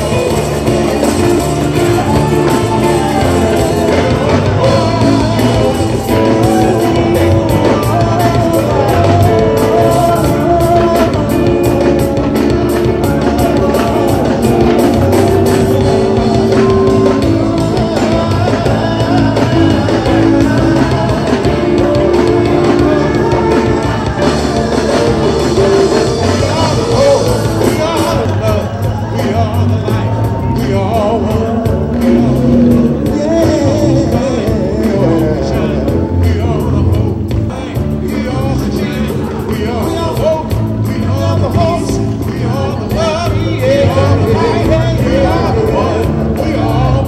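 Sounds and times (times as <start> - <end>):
group of people singing: 0.0 - 47.0
live band with drum kit: 0.0 - 47.0.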